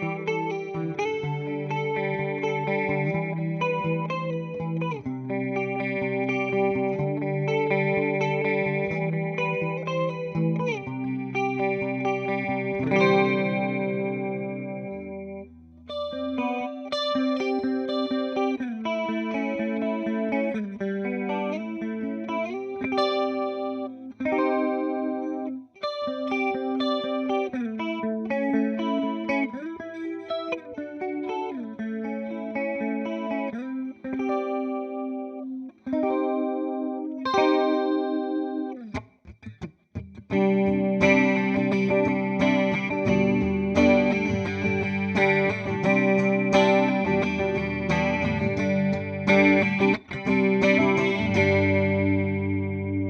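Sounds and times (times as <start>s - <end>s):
electric guitar with chorus effect: 0.0s - 53.0s.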